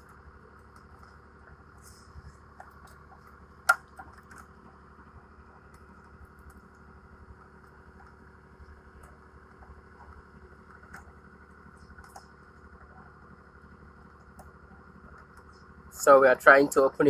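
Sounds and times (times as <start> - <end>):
faint machine hum: 0.0 - 17.0.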